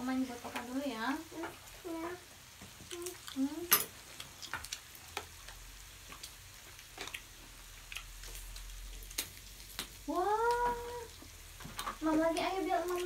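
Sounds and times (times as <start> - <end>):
meat sizzling on a grill pan: 0.0 - 13.0.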